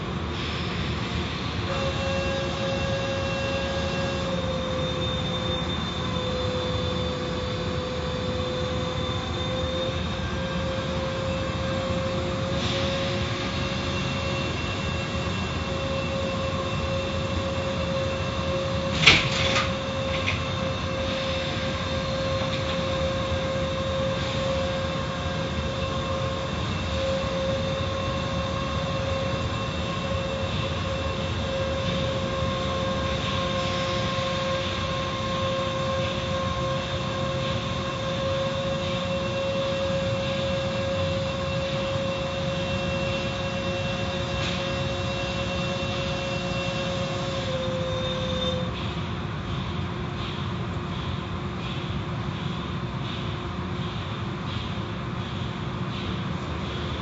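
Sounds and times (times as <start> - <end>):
car wash machinery whining: 0.0 - 57.0.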